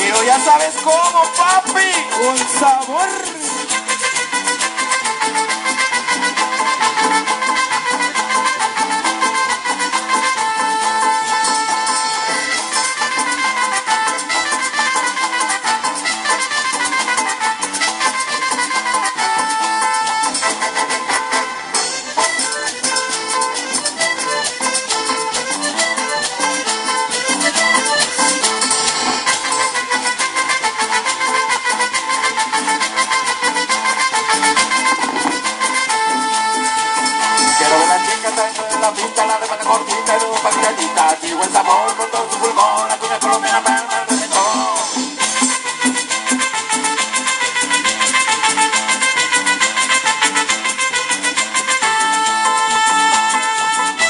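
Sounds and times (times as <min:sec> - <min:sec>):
live cumbia band playing: 0:00.0 - 0:54.0
rattling percussion beat: 0:00.0 - 0:54.0.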